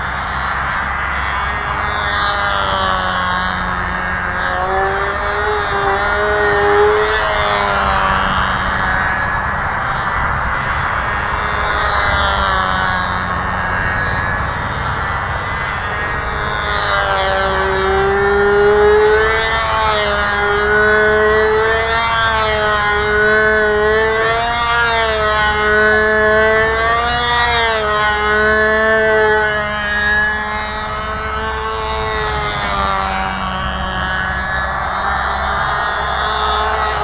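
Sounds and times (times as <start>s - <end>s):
model airplane engine whining: 0.0s - 37.0s.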